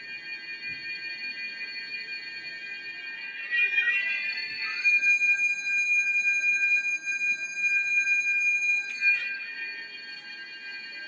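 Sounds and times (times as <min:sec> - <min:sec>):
bell-like ringing tones: 0:00.0 - 0:11.0.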